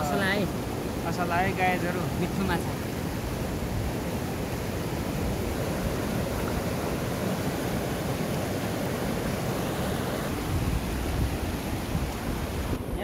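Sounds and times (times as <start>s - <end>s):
river rapids rushing over rocks: 0.0s - 12.9s.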